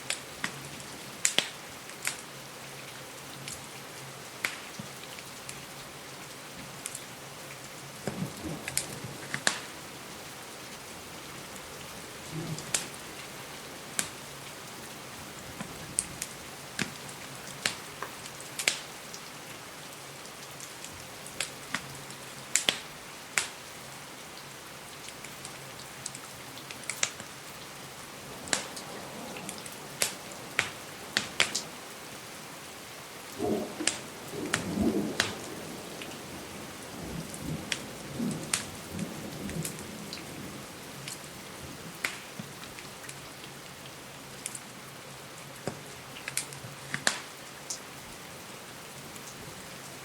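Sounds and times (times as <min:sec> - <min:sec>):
wood fire crackling: 0:00.0 - 0:03.7, 0:04.3 - 0:05.7, 0:06.7 - 0:23.8, 0:24.4 - 0:40.4, 0:41.0 - 0:43.4, 0:45.6 - 0:47.9
rain hiss: 0:00.0 - 0:50.0.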